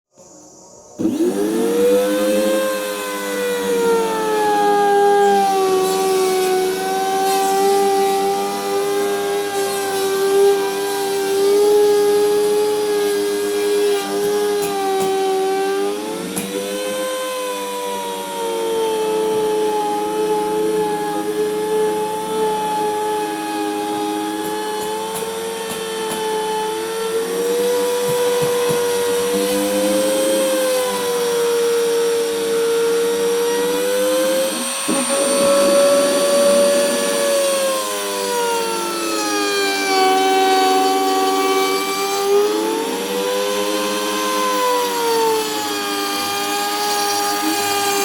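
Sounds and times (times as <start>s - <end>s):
electric router cutting wood: 1.0s - 48.0s.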